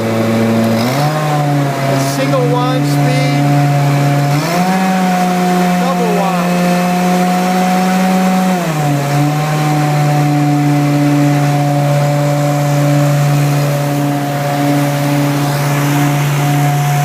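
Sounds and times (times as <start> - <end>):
carpet cleaner engine humming: 0.0 - 17.0.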